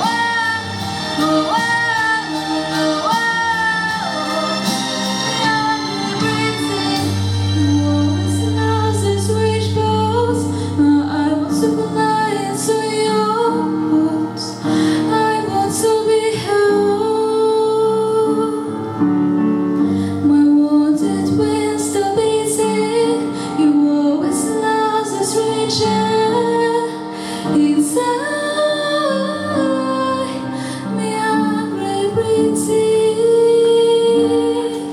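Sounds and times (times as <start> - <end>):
woman singing slow song: 0.0 - 19.0, 19.9 - 34.9
instrumental accompaniment: 0.0 - 34.9.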